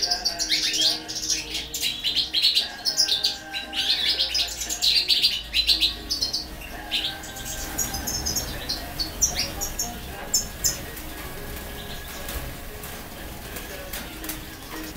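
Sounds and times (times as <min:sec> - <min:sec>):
goldfinches chirping: 0:00.0 - 0:14.9.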